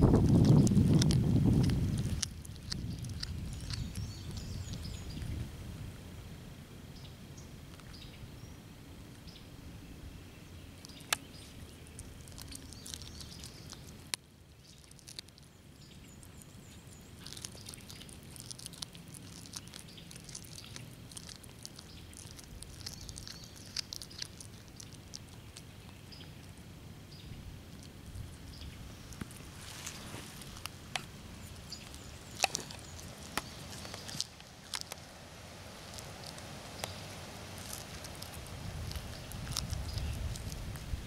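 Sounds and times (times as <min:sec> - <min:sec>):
cat chewing with wet clicks: 0:00.0 - 0:05.4, 0:10.8 - 0:26.9, 0:27.6 - 0:41.0.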